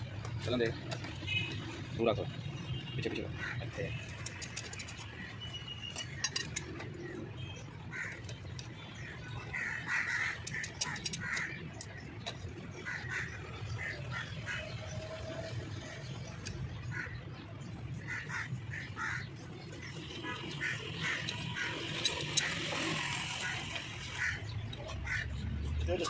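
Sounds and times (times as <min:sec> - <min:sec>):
birds squawking: 0:02.7 - 0:26.0.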